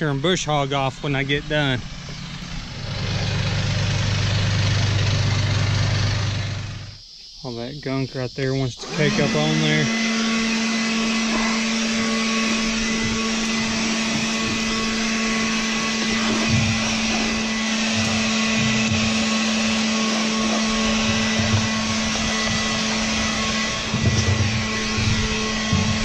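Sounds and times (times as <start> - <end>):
leaf blower running: 0.0 - 7.0, 8.8 - 26.0.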